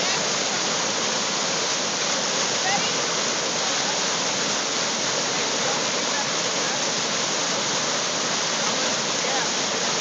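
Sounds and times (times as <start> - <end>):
water rushing through rapids: 0.0 - 10.0.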